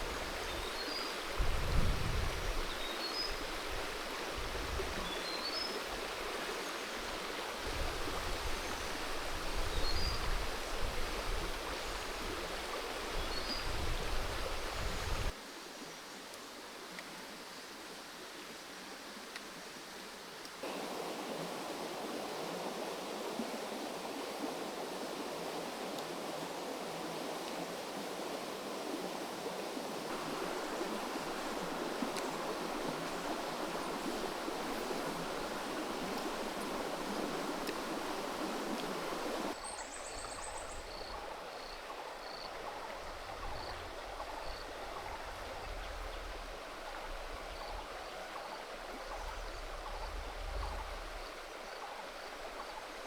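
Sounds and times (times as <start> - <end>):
creek water rushing: 0.0 - 15.7, 16.5 - 53.0.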